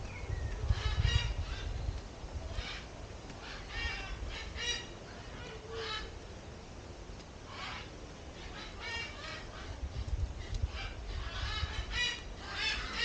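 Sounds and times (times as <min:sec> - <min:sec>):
birds making harsh calls: 0:00.0 - 0:06.2, 0:07.5 - 0:09.8, 0:10.4 - 0:13.0.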